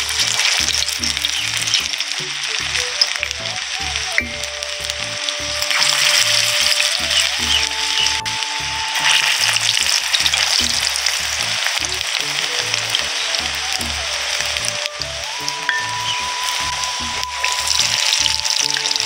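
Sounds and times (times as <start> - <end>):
background music: 0.0 - 19.0
food sizzling in hot oil: 0.0 - 19.0.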